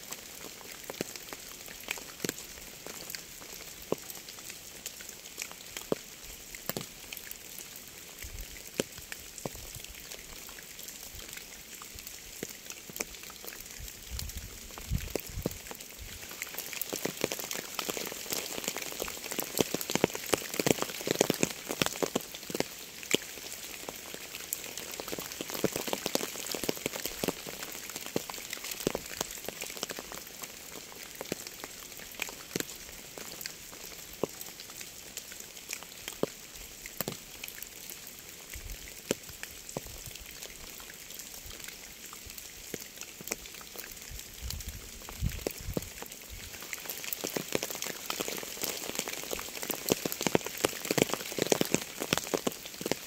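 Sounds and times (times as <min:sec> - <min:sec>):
rain falling: 0:00.0 - 0:53.0
raindrops ticking: 0:00.0 - 0:53.0.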